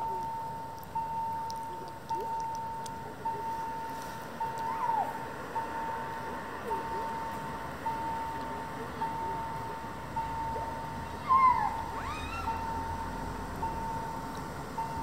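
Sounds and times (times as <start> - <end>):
level crossing warning bell: 0.0 - 1.6, 2.2 - 4.7, 5.4 - 11.0, 11.7 - 15.0.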